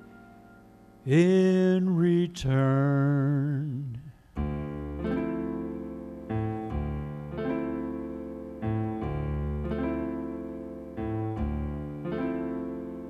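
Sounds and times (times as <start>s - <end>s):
piano chords ringing: 0.0s - 3.8s, 4.4s - 13.0s.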